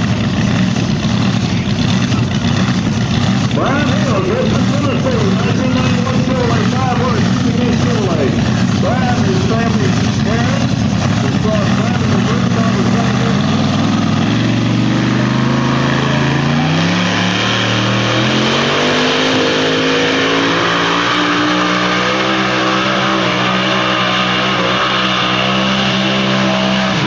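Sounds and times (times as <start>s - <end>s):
truck engine running hard: 0.0s - 27.0s.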